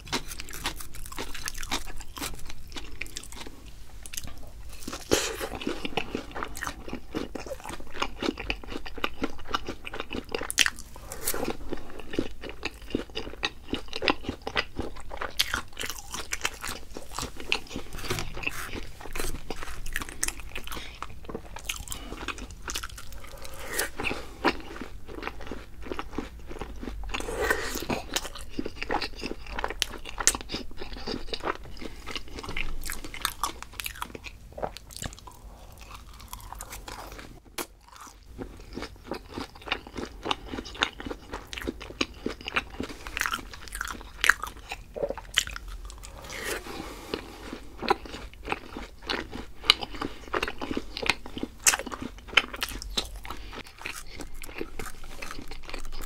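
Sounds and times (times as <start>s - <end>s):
chewing crunchy fried food: 0.0s - 56.0s.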